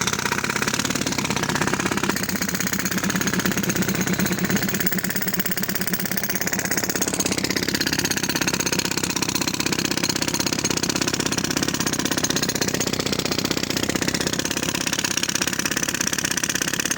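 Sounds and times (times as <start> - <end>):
demolition hammer breaking concrete: 0.0 - 16.9.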